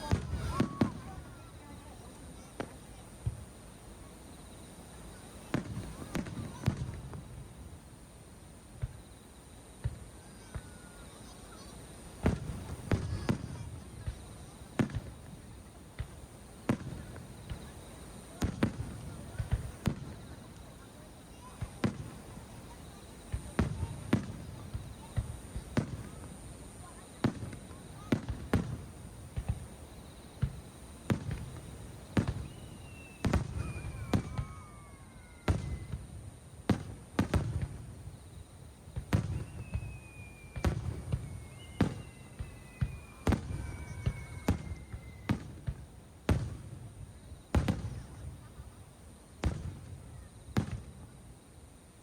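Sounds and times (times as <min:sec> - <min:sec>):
fireworks whistles falling in pitch: 0:00.0 - 0:07.4, 0:08.8 - 0:48.8, 0:49.4 - 0:51.2
fireworks booming: 0:00.0 - 0:07.9, 0:08.6 - 0:51.2.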